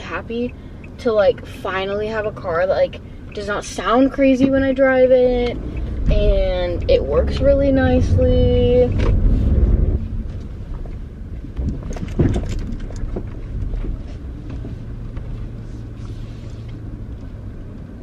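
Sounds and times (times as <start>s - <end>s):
low engine and road rumble: 0.0s - 18.0s.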